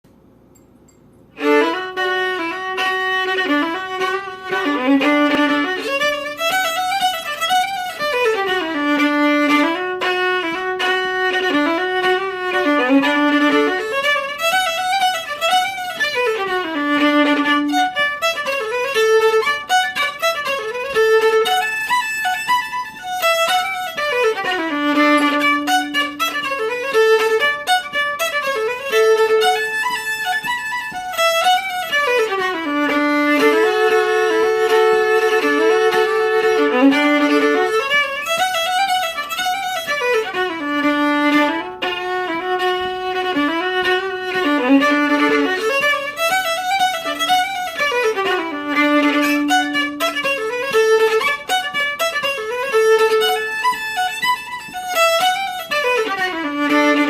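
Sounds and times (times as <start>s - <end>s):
solo fiddle playing: 1.3s - 57.0s.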